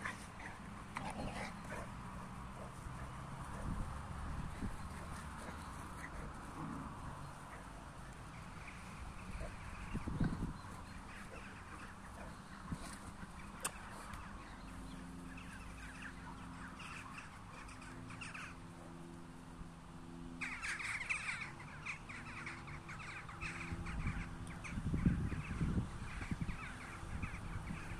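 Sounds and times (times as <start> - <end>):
harsh bird calls: 0.0 - 19.1, 20.2 - 27.9.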